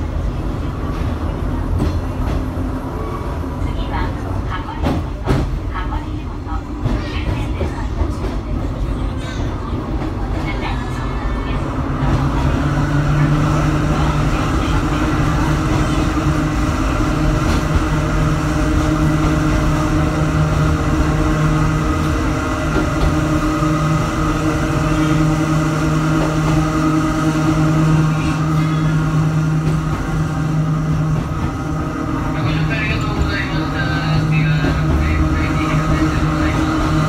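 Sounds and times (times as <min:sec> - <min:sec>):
train interior hum and rumble: 0:00.0 - 0:37.0.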